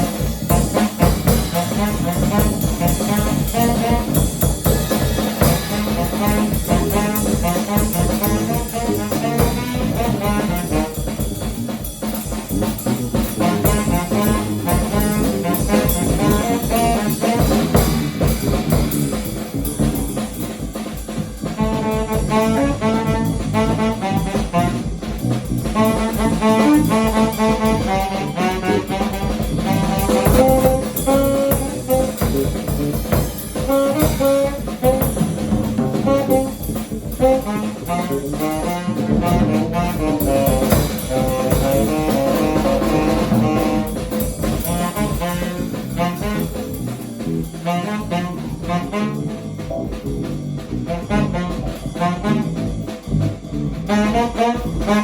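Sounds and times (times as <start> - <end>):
bass: 0.0 - 55.0
drum kit: 0.0 - 55.0
tenor saxophone runs: 0.0 - 55.0.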